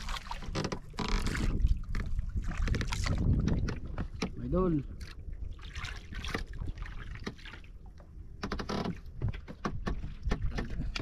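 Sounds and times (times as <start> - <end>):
wind rumble on microphone: 0.0 - 7.3, 8.2 - 11.0
small waves lapping against hull: 0.0 - 11.0.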